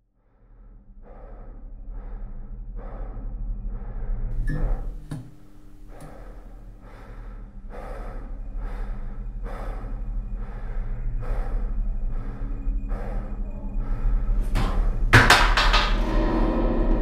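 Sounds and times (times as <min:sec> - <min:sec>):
person breathing hard: 0:00.2 - 0:15.2
steady low hum: 0:00.3 - 0:17.0.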